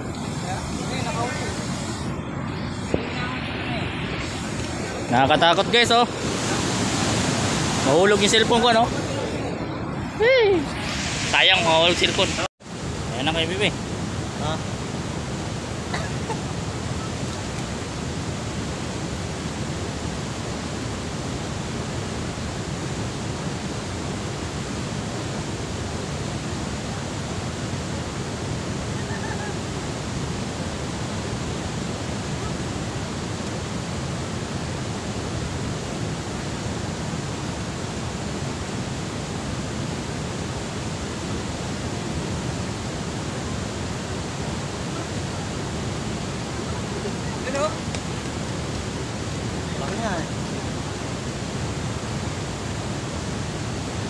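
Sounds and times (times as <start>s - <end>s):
water rushing from spillway: 0.0s - 54.0s.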